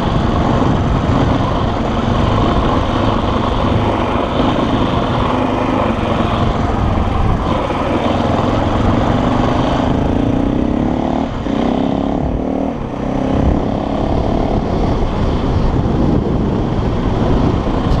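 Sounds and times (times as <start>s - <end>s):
low rush of noise: 0.0s - 18.0s
motorcycle engine running: 0.0s - 18.0s.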